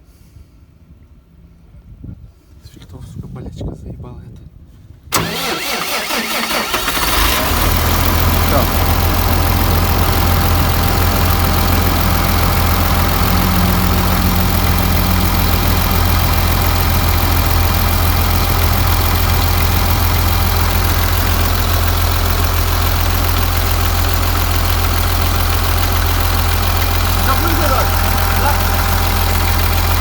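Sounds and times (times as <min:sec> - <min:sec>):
truck diesel engine idling: 0:05.1 - 0:30.0.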